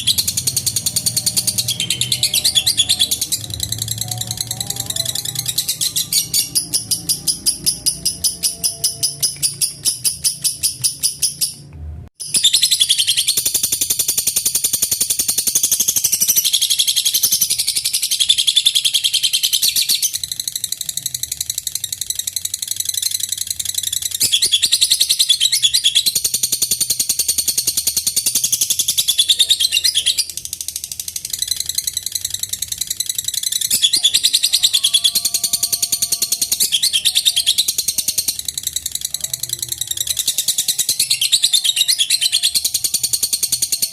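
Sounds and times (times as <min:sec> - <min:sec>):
bird high-pitched chattering trill: 0:00.0 - 0:11.6, 0:12.2 - 0:43.9.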